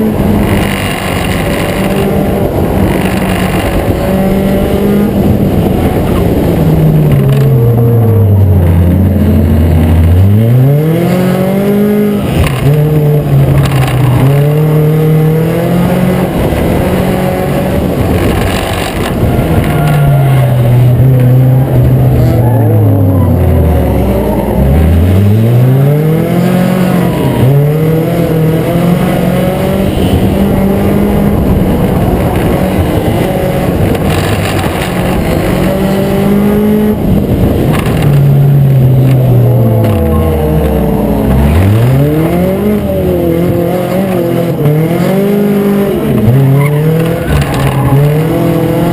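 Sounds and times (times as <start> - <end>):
race car engine accelerating: 0.0 - 48.9.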